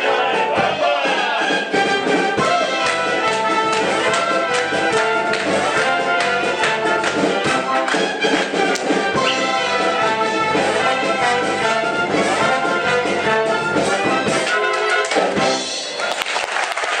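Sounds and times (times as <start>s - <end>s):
theatre orchestra playing: 0.0s - 16.3s
brass instruments: 0.0s - 16.7s.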